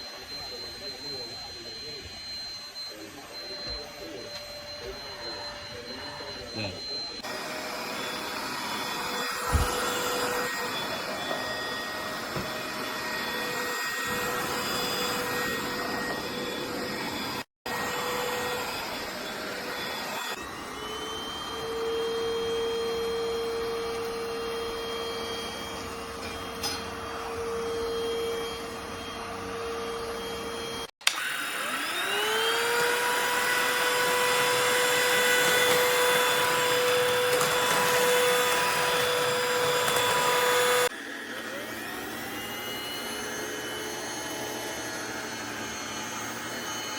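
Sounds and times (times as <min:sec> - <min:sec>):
stick vacuum motor whine: 0:00.0 - 0:46.9.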